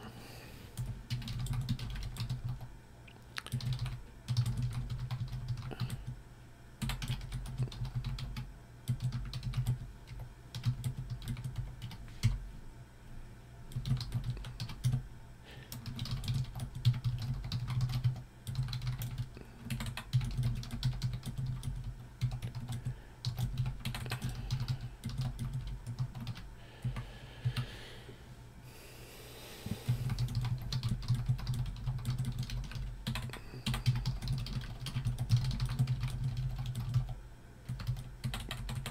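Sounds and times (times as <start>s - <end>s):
steady low hum: 0.0s - 38.9s
typing on computer keyboard: 0.8s - 2.7s, 3.4s - 6.2s, 6.8s - 12.4s, 13.7s - 15.0s, 15.7s - 27.6s, 30.0s - 38.9s.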